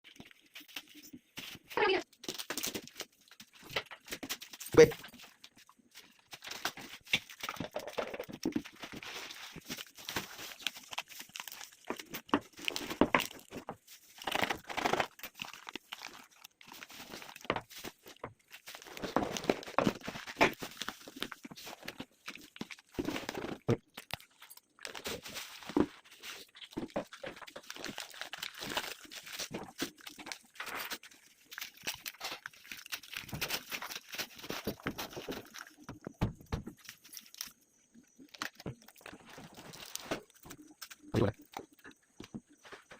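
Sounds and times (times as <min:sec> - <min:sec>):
packaging crinkling and tearing: 0:00.1 - 0:36.1, 0:36.7 - 0:41.8.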